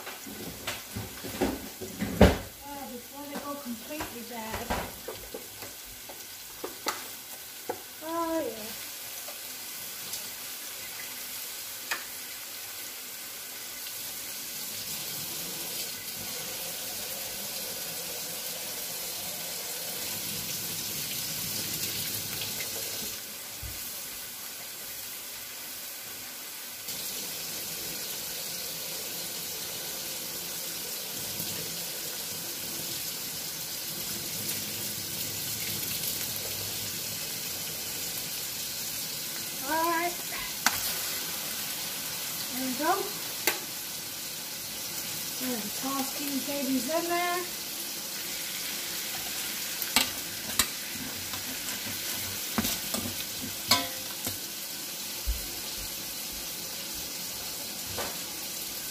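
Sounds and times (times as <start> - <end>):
vegetables sizzling in oil: 0.0 - 58.9.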